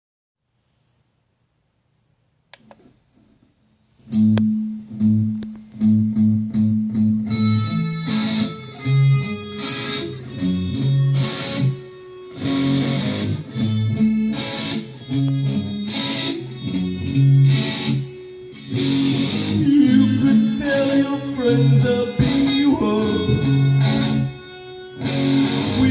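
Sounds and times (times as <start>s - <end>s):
bass guitar: 4.0s - 25.9s
electric guitar: 4.0s - 25.9s.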